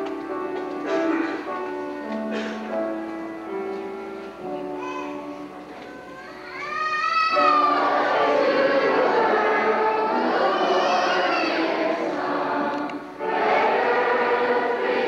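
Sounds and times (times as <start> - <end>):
children's choir singing: 0.0 - 15.0
instrumental accompaniment held notes: 0.0 - 15.0.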